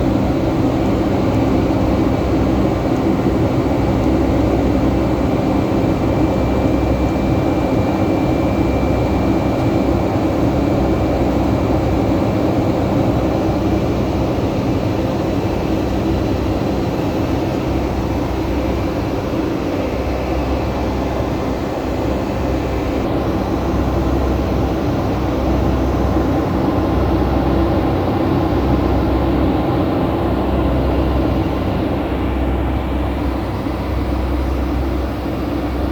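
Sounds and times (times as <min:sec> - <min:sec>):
jet engine drone: 0:00.0 - 0:35.9.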